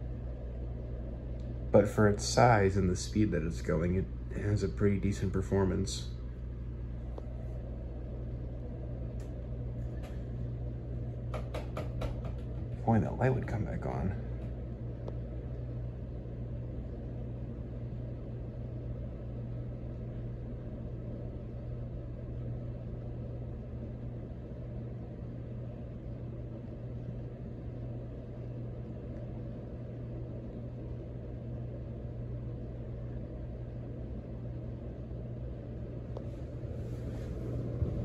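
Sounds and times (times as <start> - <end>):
air whooshing from fan blades: 0.0 - 38.0
ceiling fan motor hum: 0.0 - 38.0.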